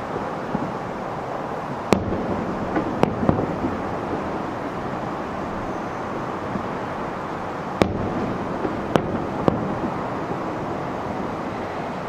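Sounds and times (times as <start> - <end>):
steady background hiss: 0.0 - 12.0
distant firework bangs: 1.8 - 11.9.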